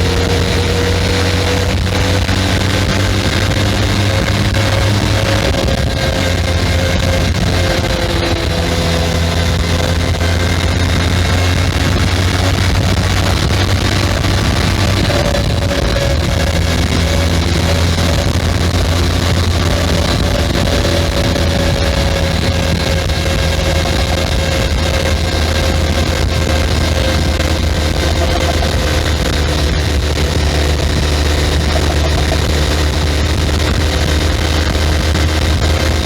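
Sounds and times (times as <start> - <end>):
faint whine falling in pitch: 0.0 - 36.0
motorcycle engine running: 0.0 - 36.0.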